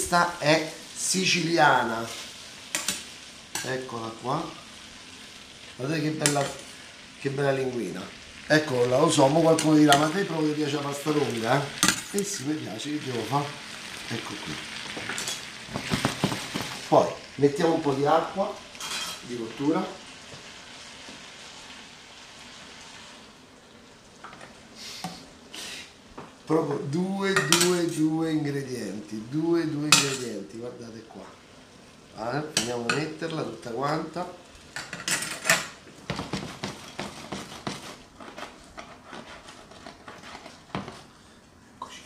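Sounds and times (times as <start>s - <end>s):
pasta sizzling in a wok: 0.0s - 42.0s.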